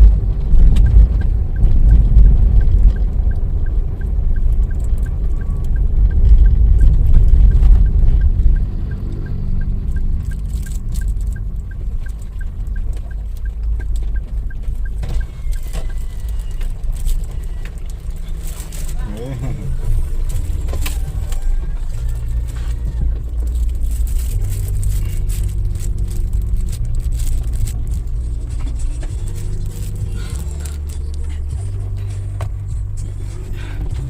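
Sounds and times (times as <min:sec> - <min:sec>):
car engine and road rumble: 0:00.0 - 0:34.0
light regular ticking: 0:00.0 - 0:34.0.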